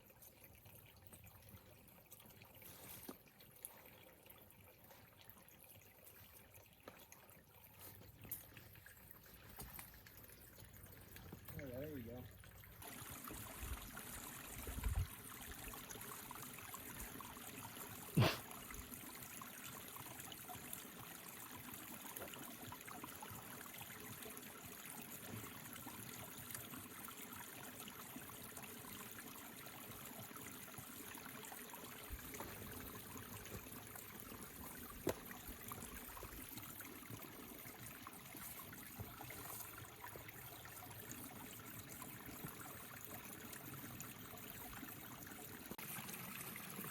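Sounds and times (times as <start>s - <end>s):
water trickling: 0.0s - 46.9s.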